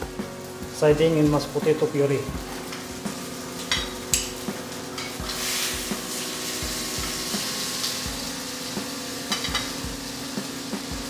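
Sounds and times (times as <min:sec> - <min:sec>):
steak sizzling in frying pan: 0:00.0 - 0:11.0.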